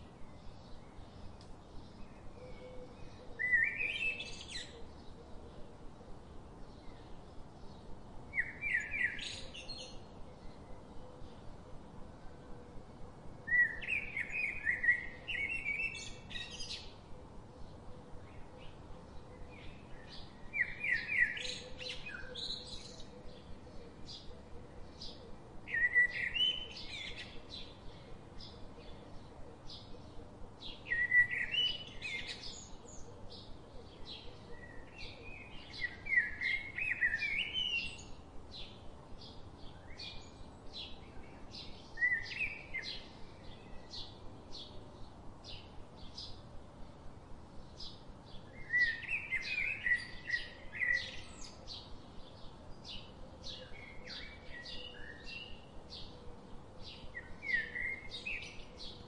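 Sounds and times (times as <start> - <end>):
bird warbling song: 0.0 - 5.6, 6.6 - 11.5, 13.5 - 46.5, 47.6 - 59.0.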